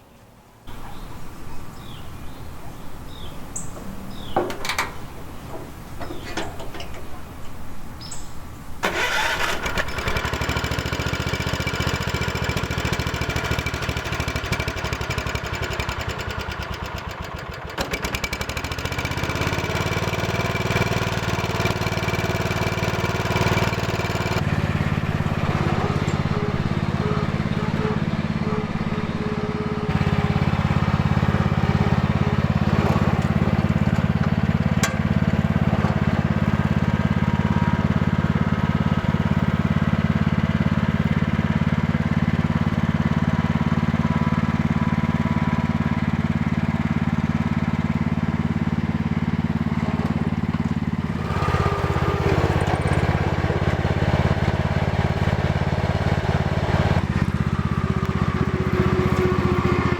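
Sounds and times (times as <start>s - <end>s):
garden tractor engine running: 0.7s - 59.9s.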